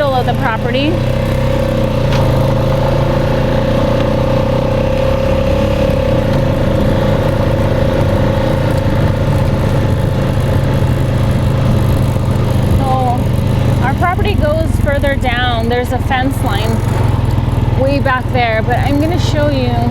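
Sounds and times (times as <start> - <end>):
vehicle engine running: 0.0 - 19.9.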